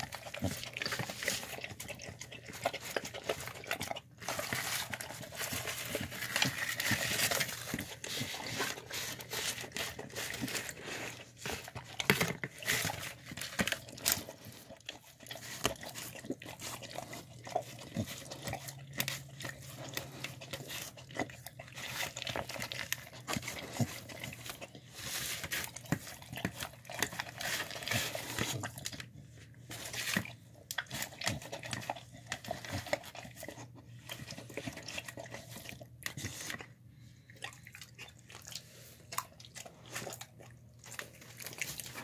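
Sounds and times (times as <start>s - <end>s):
dog licking and chewing: 0.0s - 42.0s.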